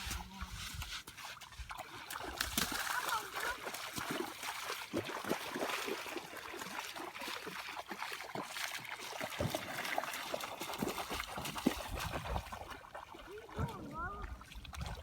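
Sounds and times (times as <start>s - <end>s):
river water trickling and lapping: 0.0s - 15.0s.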